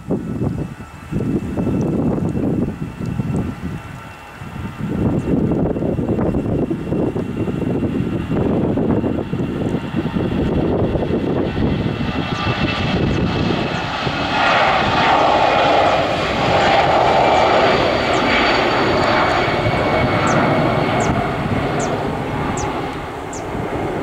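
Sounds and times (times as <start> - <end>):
jet engine roar at take-off: 0.0 - 24.0.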